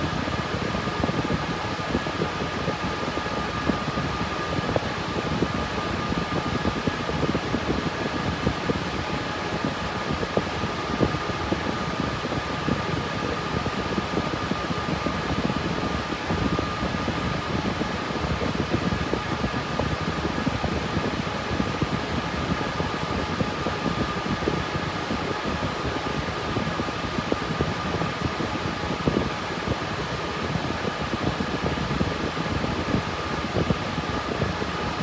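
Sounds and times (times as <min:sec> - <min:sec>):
cooling fans whirring: 0:00.0 - 0:35.0
faint fan whine: 0:00.0 - 0:35.0.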